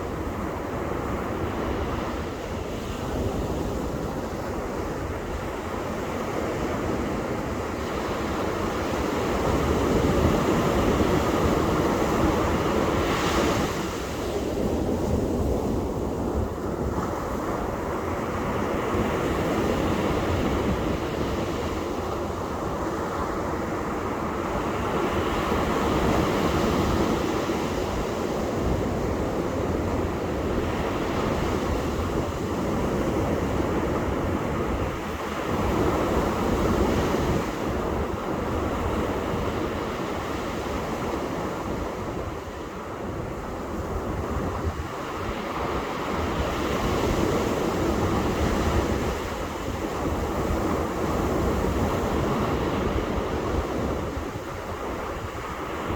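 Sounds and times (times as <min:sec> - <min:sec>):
ocean surf breaking on beach: 0:00.0 - 0:55.9
wind buffeting microphone: 0:00.0 - 0:55.9.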